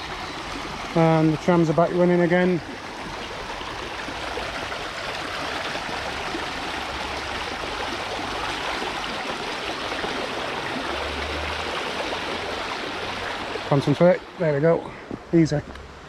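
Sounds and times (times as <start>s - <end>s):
river water babbling over stones: 0.0s - 16.0s.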